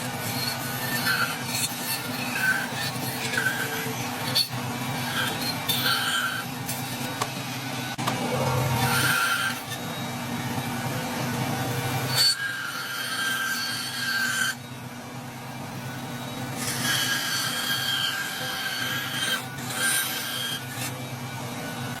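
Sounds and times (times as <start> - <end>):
whining rasping wood cut: 0.0 - 15.0, 15.8 - 22.0.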